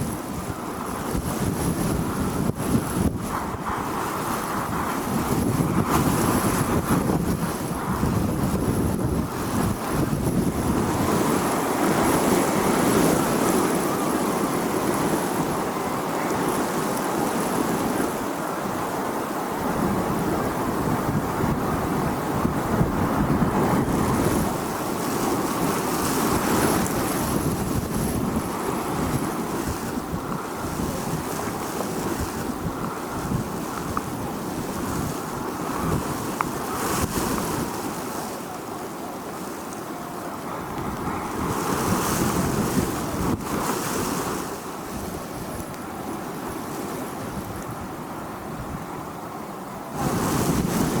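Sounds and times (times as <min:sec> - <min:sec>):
strong gusty wind: 0:00.0 - 0:51.0.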